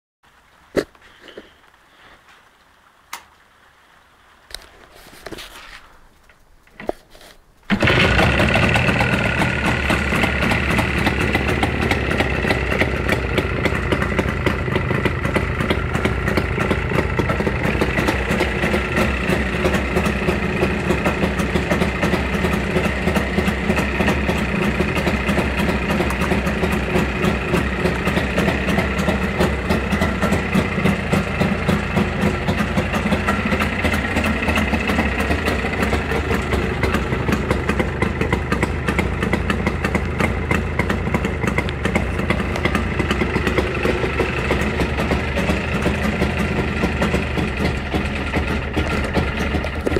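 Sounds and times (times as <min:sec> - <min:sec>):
motorcycle engine starting and idling: 0:07.7 - 0:49.9.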